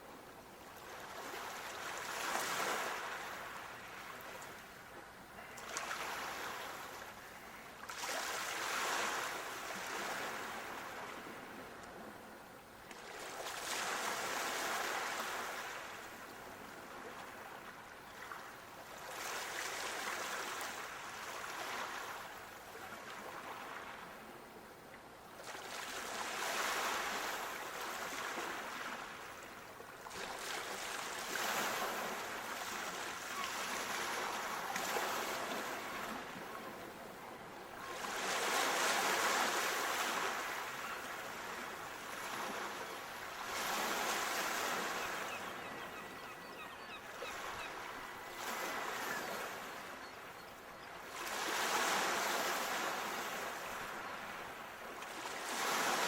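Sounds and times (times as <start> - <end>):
waves breaking on shore: 0.0 - 24.6, 25.2 - 56.0.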